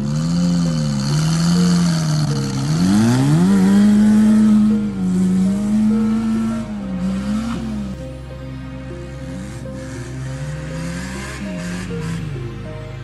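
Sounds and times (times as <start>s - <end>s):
petrol engine revving hard: 0.0s - 13.0s.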